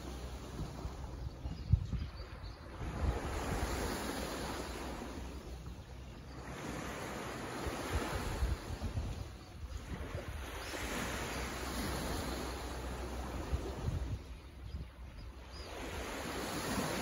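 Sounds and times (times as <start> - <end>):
small waves washing on sand: 0.0 - 1.2, 2.6 - 14.4, 15.4 - 17.0
wind buffeting microphone: 0.0 - 17.0.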